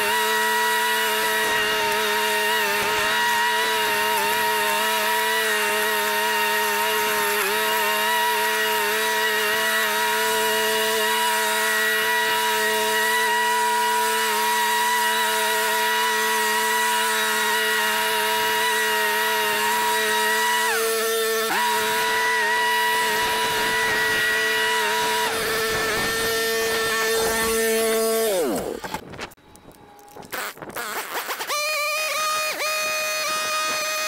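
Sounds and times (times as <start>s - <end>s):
lawn mower engine running: 0.0s - 29.1s.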